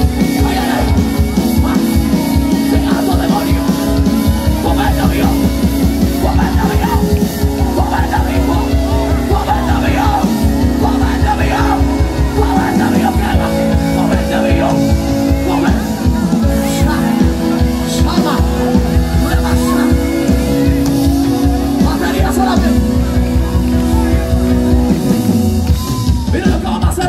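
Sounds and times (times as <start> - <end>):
drums beat: 0.0 - 27.0
electric guitar: 0.0 - 27.0
worship band playing amplified music: 0.0 - 27.0.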